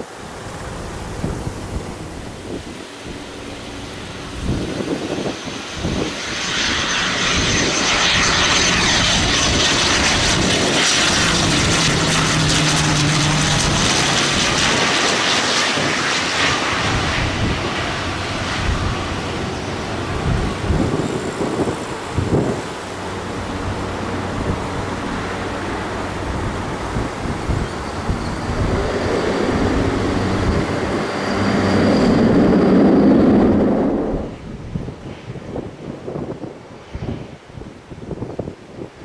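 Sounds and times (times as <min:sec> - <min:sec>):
aircraft engines passing: 0:00.0 - 0:39.0
wind buffeting microphone: 0:00.0 - 0:39.0.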